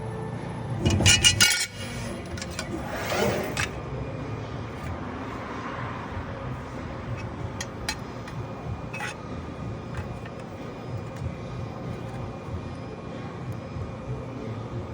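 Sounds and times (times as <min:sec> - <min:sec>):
low machinery hum: 0:00.0 - 0:14.9.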